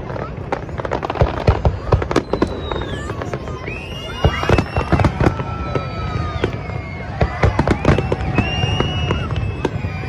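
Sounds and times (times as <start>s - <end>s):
fireworks bangs and crackling: 0.0s - 10.0s
fireworks high whistles: 0.0s - 10.0s.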